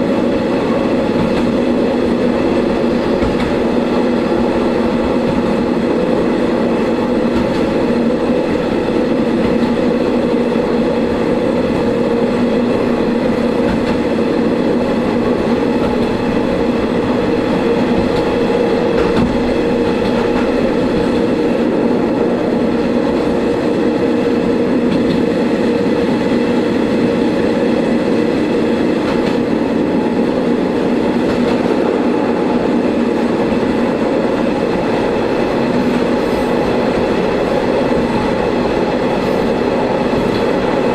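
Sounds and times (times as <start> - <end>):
railcar engine drone: 0.0 - 40.9
wheel and rail noise: 0.0 - 40.9.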